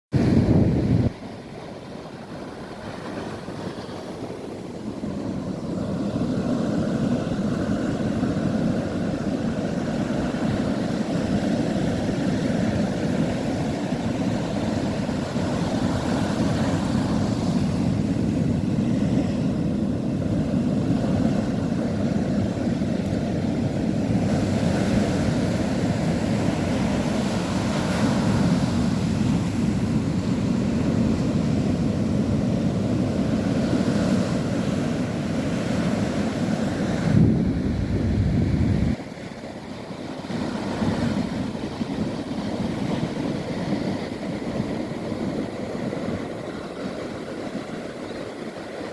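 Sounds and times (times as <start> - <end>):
ocean waves breaking: 0.1 - 48.9.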